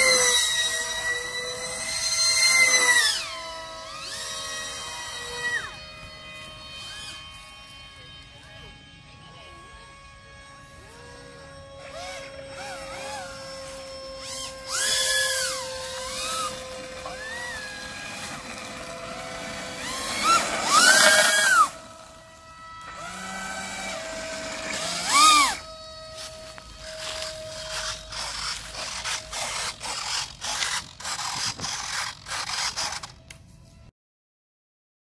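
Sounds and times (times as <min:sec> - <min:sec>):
electric motor whine revving: 0:00.0 - 0:33.8.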